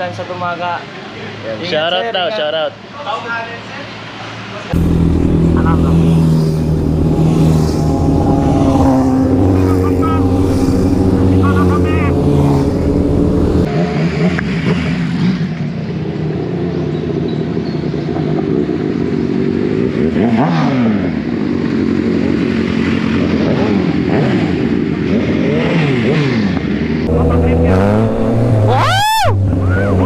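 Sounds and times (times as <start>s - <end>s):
motorcycle engines revving: 4.0s - 30.0s.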